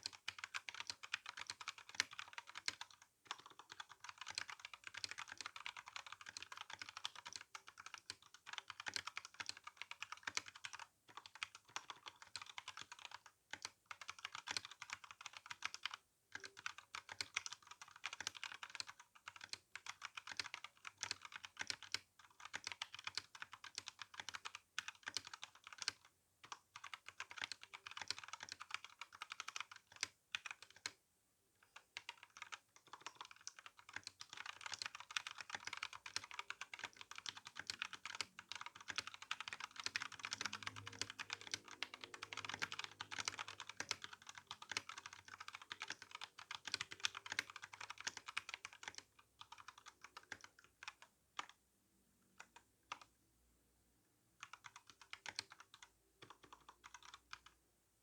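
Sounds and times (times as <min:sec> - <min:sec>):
mechanical keyboard typing: 0:00.0 - 0:31.0, 0:31.6 - 0:51.6, 0:52.4 - 0:53.1, 0:54.4 - 0:57.6.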